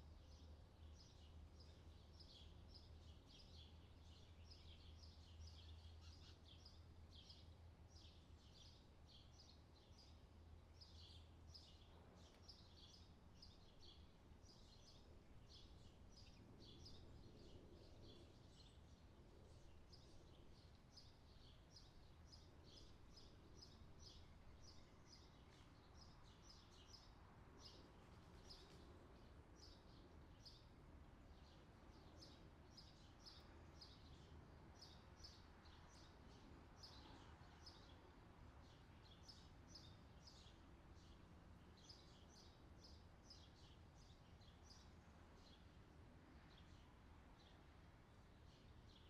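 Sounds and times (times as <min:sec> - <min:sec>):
small birds chirping: 0:00.1 - 0:49.0.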